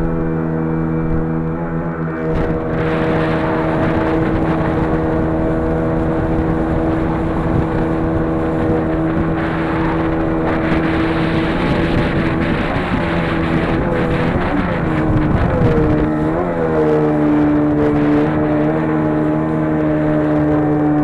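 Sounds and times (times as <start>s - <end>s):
engine running steadily: 0.0s - 21.0s
rushing water or wind: 0.0s - 21.0s.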